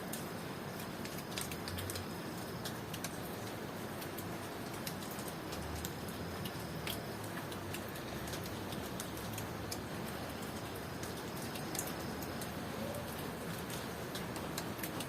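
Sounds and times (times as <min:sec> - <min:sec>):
raindrops ticking on hard surface: 0:00.0 - 0:15.0
steady rain falling: 0:00.0 - 0:15.0.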